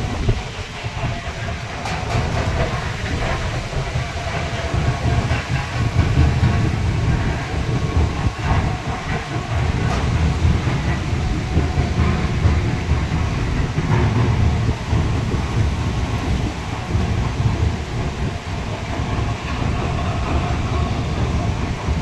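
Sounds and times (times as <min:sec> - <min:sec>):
crusher and conveyor clatter: 0:00.0 - 0:22.0
heavy low rumble: 0:00.0 - 0:22.0.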